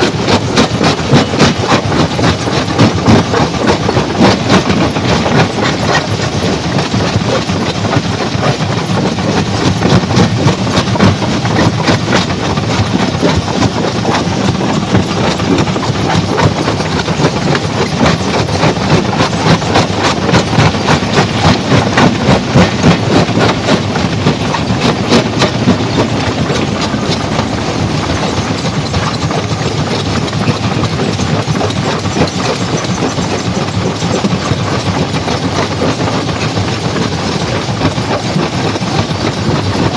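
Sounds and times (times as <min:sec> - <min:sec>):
stone crusher rattling: 0:00.0 - 0:39.9.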